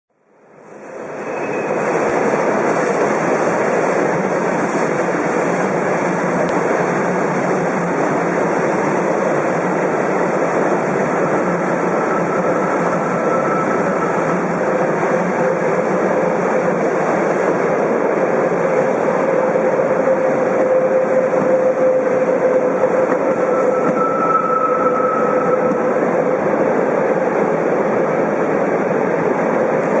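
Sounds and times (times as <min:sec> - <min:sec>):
train rumbling on rails: 0:00.2 - 0:30.0
locomotive hum: 0:01.0 - 0:30.0.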